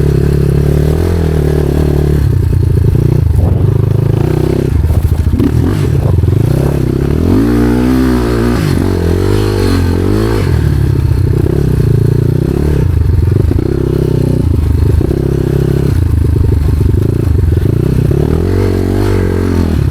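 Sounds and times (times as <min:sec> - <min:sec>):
off-road motorcycle engine revving: 0:00.0 - 0:19.9.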